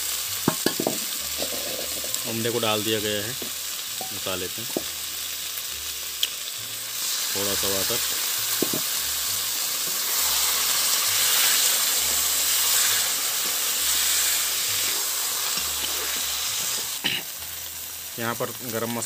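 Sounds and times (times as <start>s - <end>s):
oil sizzling and hissing: 0.0s - 19.0s.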